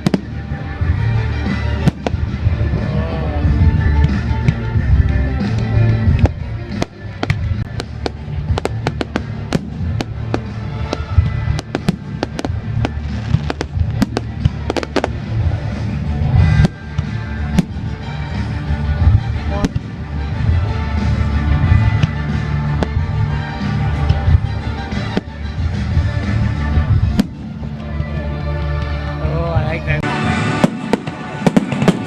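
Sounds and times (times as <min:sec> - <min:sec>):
fireworks bangs and crackles: 0:00.0 - 0:32.0
loud music: 0:00.0 - 0:32.0.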